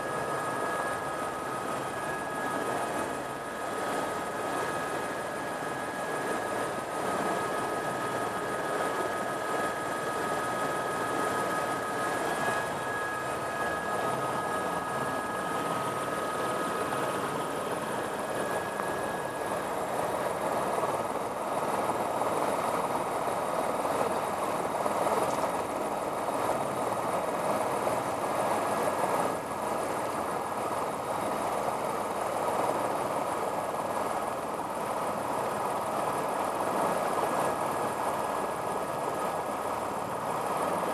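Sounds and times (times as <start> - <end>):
helicopter engine and rotor noise: 0.0 - 40.9.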